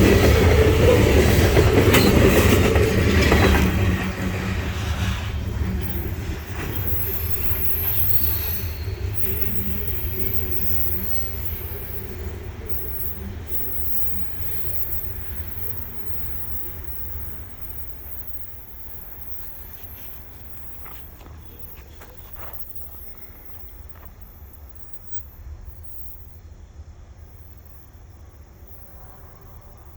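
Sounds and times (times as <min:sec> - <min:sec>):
train wheel squeal: 0:00.0 - 0:26.4
train cars rumbling past: 0:00.0 - 0:29.9.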